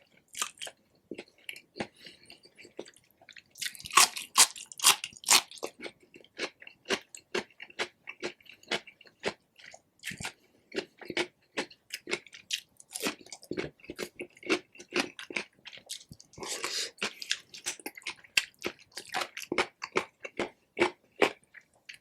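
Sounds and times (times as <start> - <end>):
wet chewing and smacking: 0.0 - 22.0.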